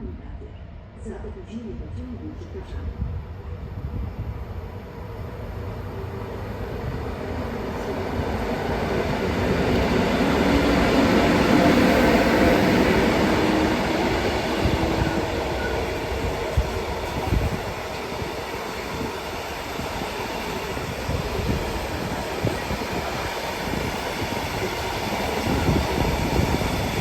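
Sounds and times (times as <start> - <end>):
train passing rumble: 0.0 - 27.0.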